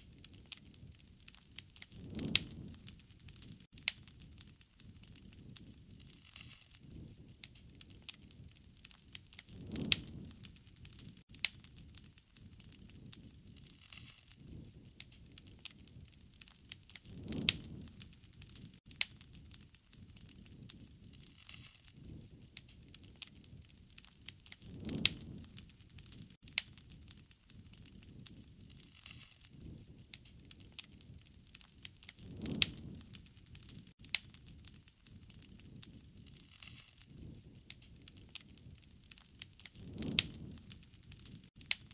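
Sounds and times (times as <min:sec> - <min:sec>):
wood fire crackling: 0:00.0 - 0:41.9
sharp pops and snaps: 0:00.2 - 0:06.8, 0:07.4 - 0:23.4, 0:24.0 - 0:41.9.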